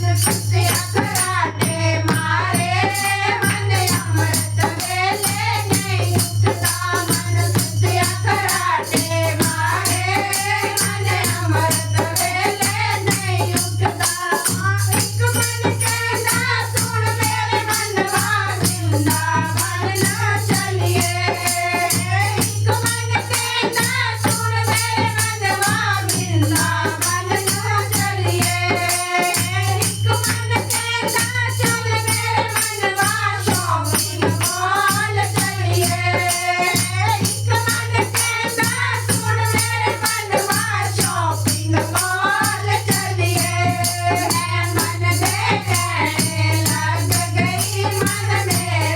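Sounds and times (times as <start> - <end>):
devotional singing: 0.0 - 48.9
rattling percussion beat: 0.0 - 48.9.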